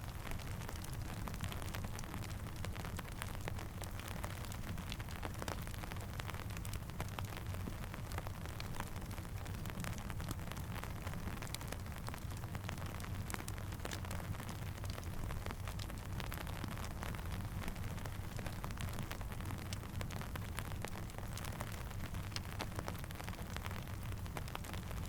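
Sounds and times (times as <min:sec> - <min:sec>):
rain pattering: 0:00.0 - 0:25.0
campfire crackling: 0:00.1 - 0:25.0.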